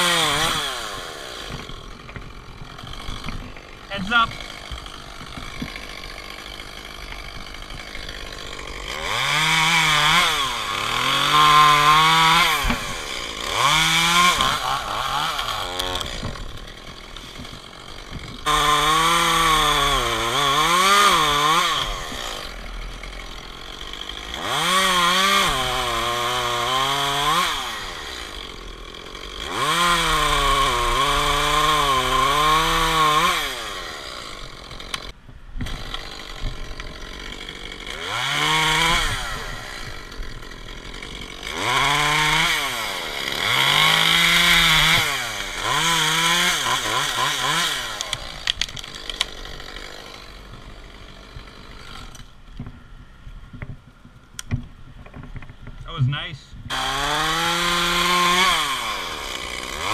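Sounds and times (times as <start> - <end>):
chainsaw cutting wood: 0.0 - 55.9, 56.7 - 59.9.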